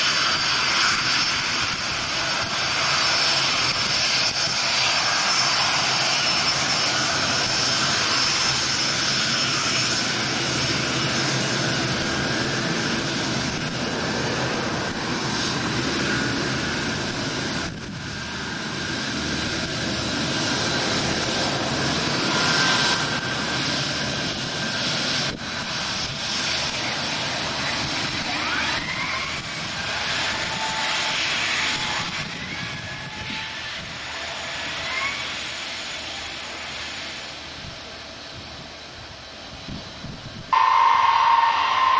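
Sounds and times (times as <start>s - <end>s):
high jet whine: 0.0s - 41.9s
jet engines roaring: 0.0s - 41.9s.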